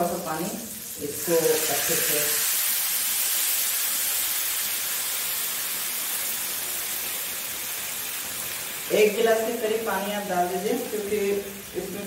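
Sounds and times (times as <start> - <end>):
water sizzling in hot oil: 0.0 - 12.0.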